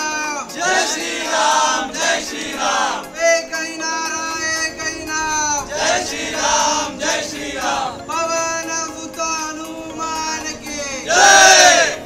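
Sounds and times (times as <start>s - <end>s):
men chanting in unison: 0.4s - 12.0s.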